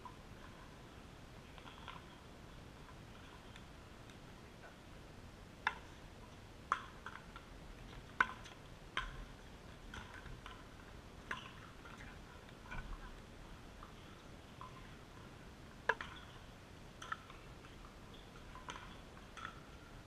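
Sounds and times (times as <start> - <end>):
faint outdoor background noise: 0.0 - 20.0.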